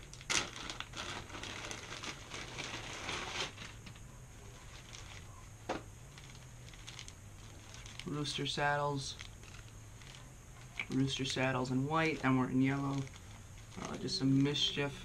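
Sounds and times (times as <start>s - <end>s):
plastic bag crinkling: 0.0s - 5.3s, 6.0s - 14.7s.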